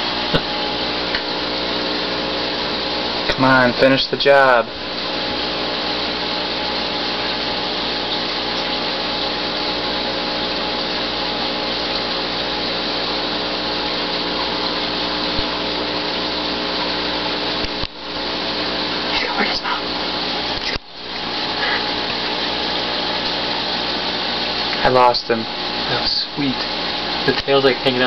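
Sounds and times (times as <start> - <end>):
aquarium pump hissing: 0.0 - 28.0.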